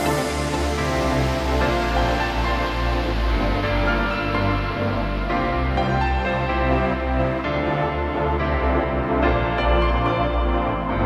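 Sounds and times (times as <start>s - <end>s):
deep bass: 0.0s - 11.0s
sustained synthesizer chords: 0.0s - 11.0s.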